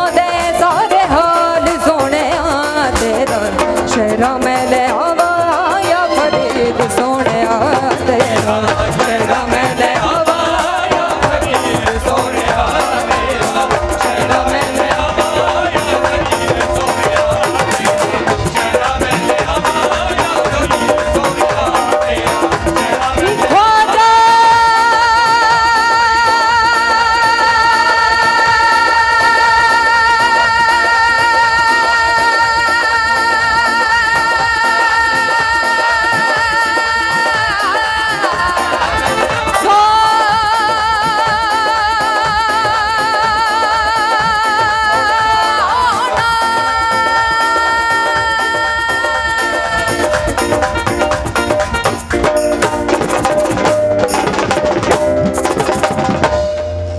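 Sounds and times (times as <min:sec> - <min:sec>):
woman singing: 0:00.0 - 0:53.7
percussion: 0:00.0 - 0:56.9.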